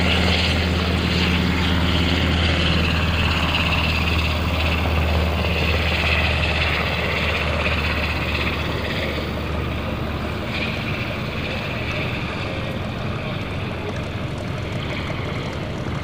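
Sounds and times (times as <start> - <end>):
helicopter flying past: 0.0 - 16.0.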